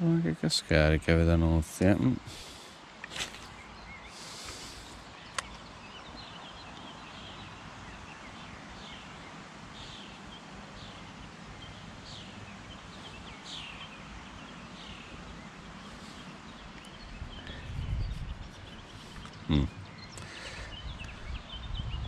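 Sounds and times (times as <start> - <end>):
outdoor background noise: 0.0 - 22.0
small birds chirping: 0.0 - 22.0.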